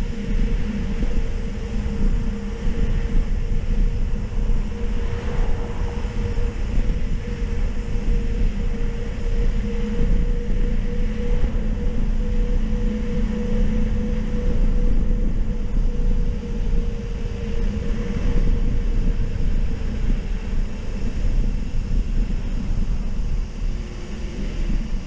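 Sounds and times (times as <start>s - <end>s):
constant hum: 0.0s - 25.0s
wind rushing over microphone: 0.0s - 25.0s.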